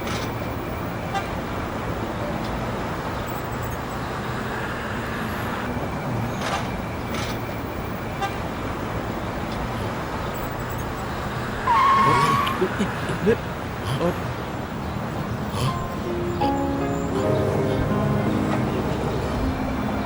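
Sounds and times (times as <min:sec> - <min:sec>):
city street traffic noise: 0:00.0 - 0:20.0.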